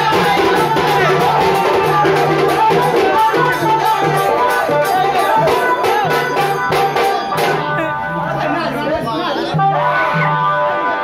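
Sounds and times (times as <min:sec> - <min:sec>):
loud music with percussion beat: 0:00.0 - 0:11.0.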